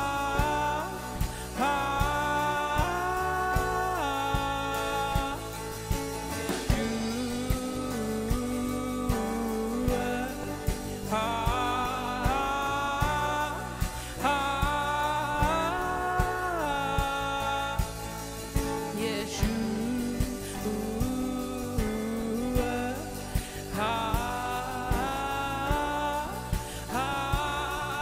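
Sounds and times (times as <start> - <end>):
acoustic guitar: 0.0 - 28.0
bass guitar: 0.0 - 28.0
drum kit steady beat: 0.0 - 28.0
keyboard: 0.0 - 28.0
woman singing: 0.0 - 28.0.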